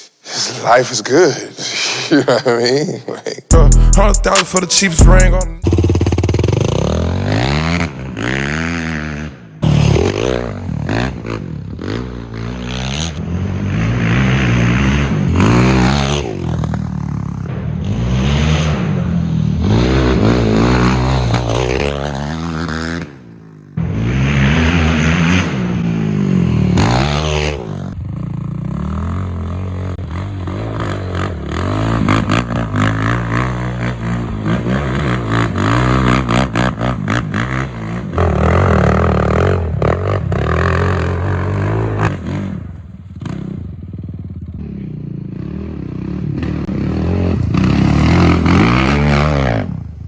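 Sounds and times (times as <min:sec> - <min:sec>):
quad engine revving: 0:03.5 - 0:23.2, 0:23.8 - 0:43.6, 0:44.6 - 0:49.9.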